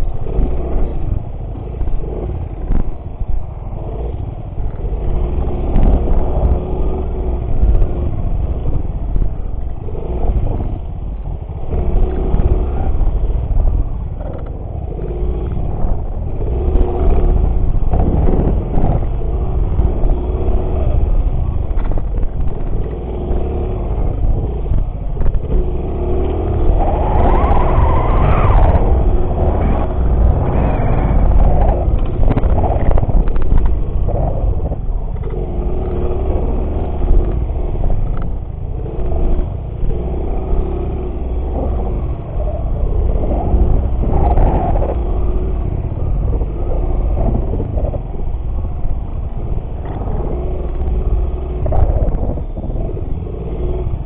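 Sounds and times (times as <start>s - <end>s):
heavy low rumble: 0.0s - 54.0s
small motorcycle engine revving: 0.0s - 54.0s.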